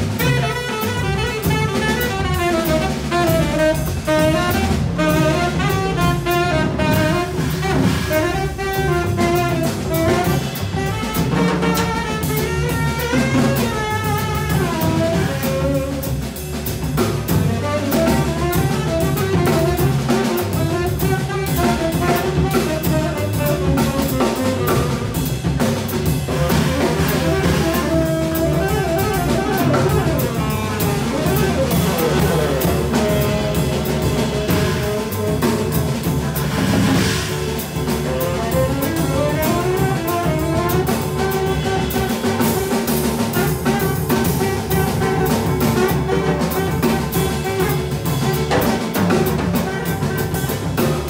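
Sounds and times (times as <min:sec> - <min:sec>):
drum kit: 0:00.0 - 0:51.0
piano: 0:00.0 - 0:51.0
saxophone melody: 0:00.0 - 0:51.0
upright double bass: 0:00.0 - 0:51.0.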